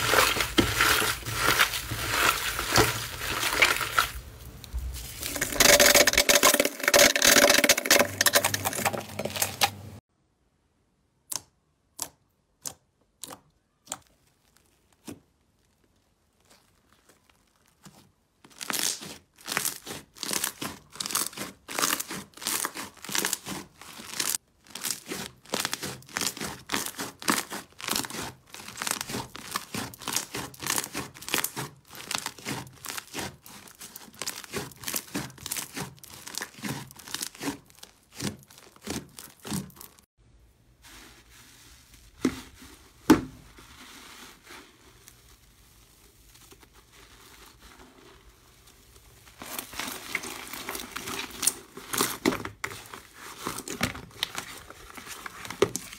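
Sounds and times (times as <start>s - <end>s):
slime crackling and popping: 0.0s - 9.9s, 11.3s - 40.1s, 44.8s - 55.9s
slime squishing: 0.0s - 10.0s, 11.3s - 40.1s, 40.7s - 55.9s.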